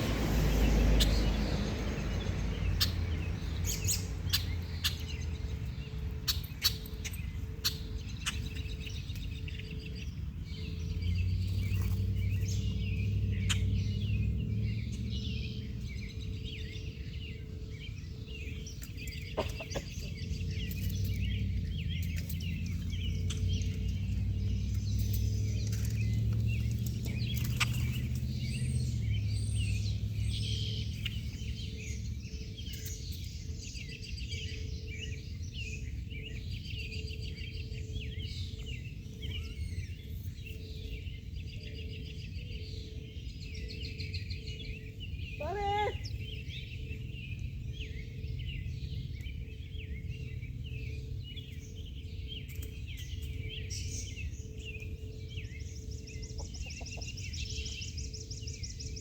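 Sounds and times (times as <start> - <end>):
low steady rumble: 0.0 - 59.0
small birds chirping: 0.0 - 59.0.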